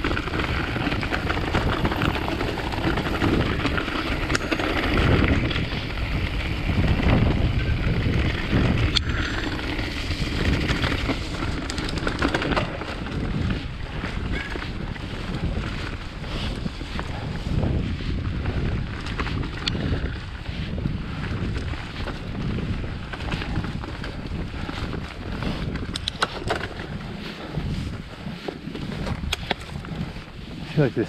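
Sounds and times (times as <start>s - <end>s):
bike clicks and knocks: 0.0s - 17.6s, 18.4s - 30.3s
wind buffeting microphone: 0.0s - 31.0s.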